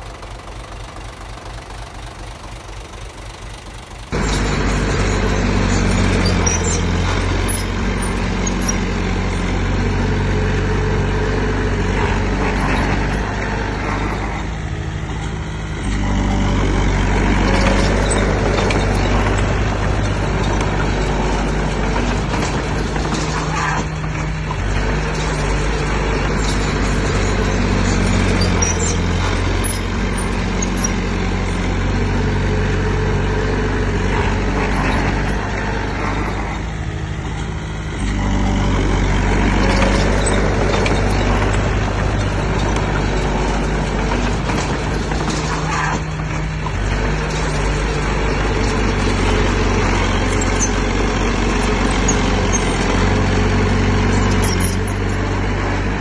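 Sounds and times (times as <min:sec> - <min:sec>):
diesel engine running hard: 0:00.0 - 0:56.0.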